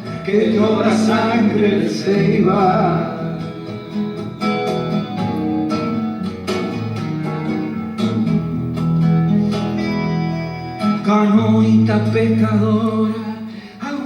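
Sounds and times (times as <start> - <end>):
acoustic guitar chords plucked: 0.0 - 14.0.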